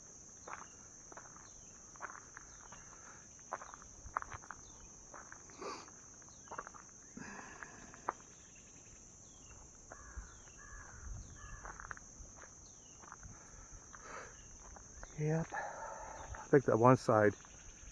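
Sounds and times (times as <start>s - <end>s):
insects droning: 0.0s - 17.9s.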